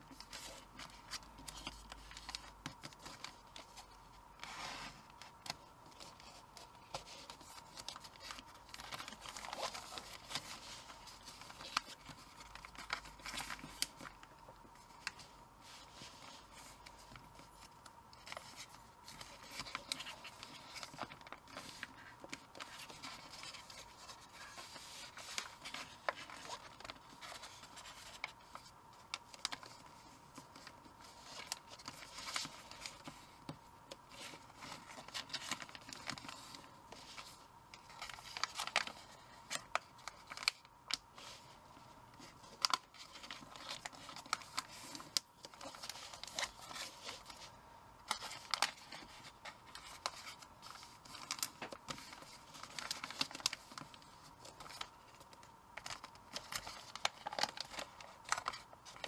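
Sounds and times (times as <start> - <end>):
faint steady whine: 0.0 - 59.0
paper being folded and creased: 0.0 - 59.0.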